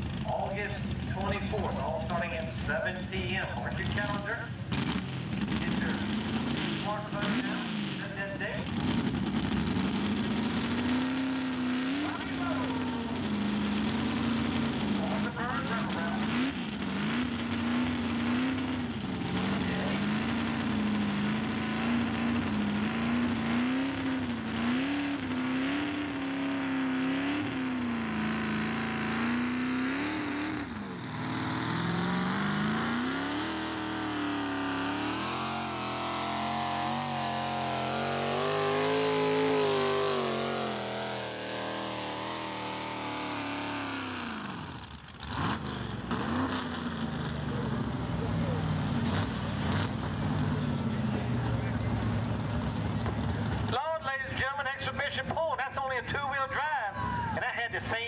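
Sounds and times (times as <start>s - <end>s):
truck engine revving hard: 0.0s - 53.8s.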